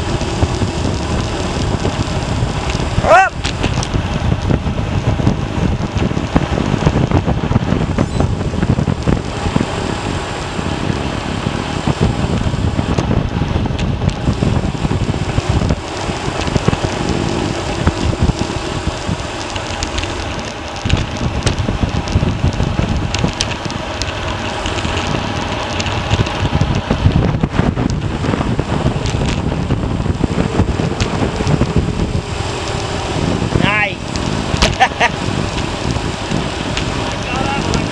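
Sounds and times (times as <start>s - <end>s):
road noise: 0.0s - 37.9s
wind buffeting microphone: 0.0s - 37.9s.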